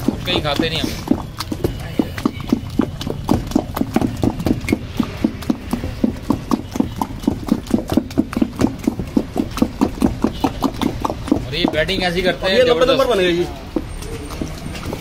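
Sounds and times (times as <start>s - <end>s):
utensil knocking rapidly: 0.0s - 15.0s.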